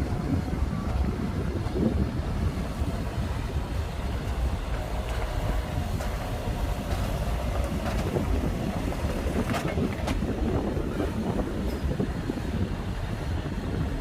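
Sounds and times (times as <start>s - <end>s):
diesel engine rumbling: 0.0s - 14.0s
steel tracks clattering: 0.0s - 14.0s.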